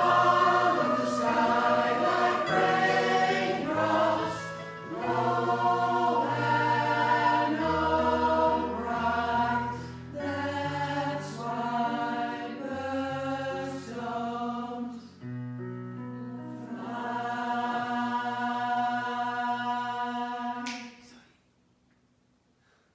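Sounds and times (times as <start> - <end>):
choir singing in parts: 0.0 - 15.2, 16.6 - 21.2.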